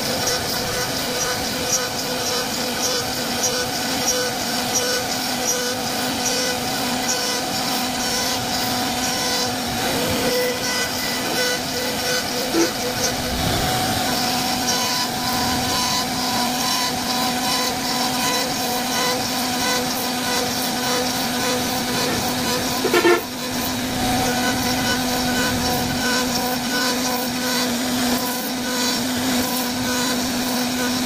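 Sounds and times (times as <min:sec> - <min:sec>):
router bit cutting hiss: 0:00.0 - 0:31.0
wood router whine: 0:00.0 - 0:31.0.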